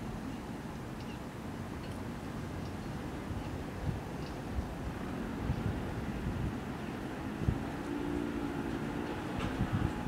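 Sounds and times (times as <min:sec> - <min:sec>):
distant diesel locomotive rumble: 0:00.0 - 0:10.0
wind buffeting microphone: 0:01.8 - 0:10.0.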